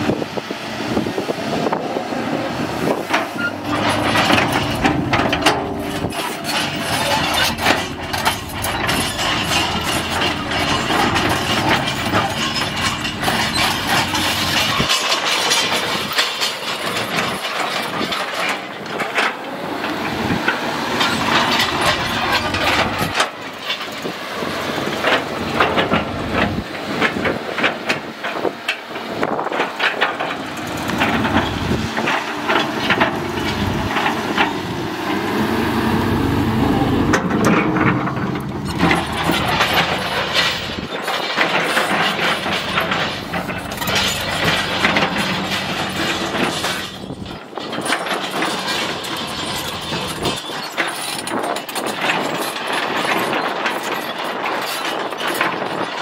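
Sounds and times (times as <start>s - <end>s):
diesel engine running: 0.0s - 56.0s
metal knocks and rattles: 2.7s - 56.0s.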